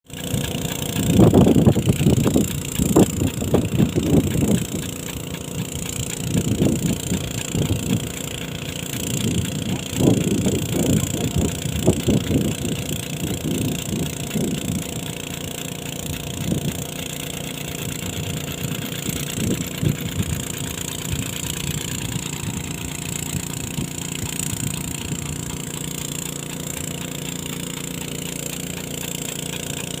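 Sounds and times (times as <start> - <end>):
petrol engine water pump running: 0.0 - 30.0.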